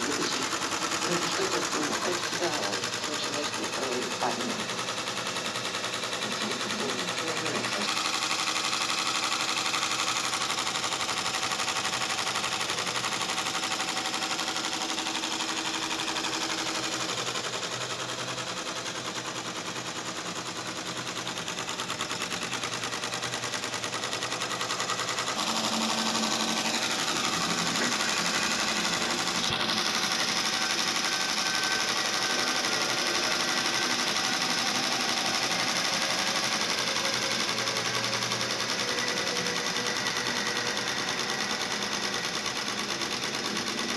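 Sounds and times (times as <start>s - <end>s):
embroidery machine needles rattling: 0.0s - 43.9s.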